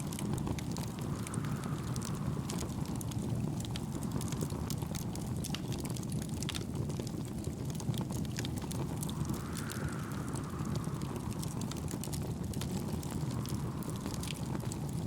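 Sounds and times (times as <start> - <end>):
firewood popping: 0.0 - 15.0
low fire rumble: 0.0 - 15.0
wood fire crackling: 0.0 - 15.0.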